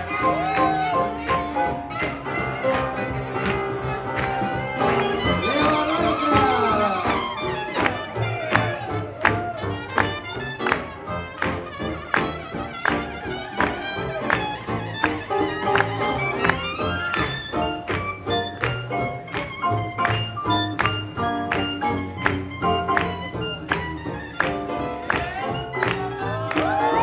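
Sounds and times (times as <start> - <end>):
swing jazz band playing: 0.0 - 27.0
trumpet: 0.0 - 27.0.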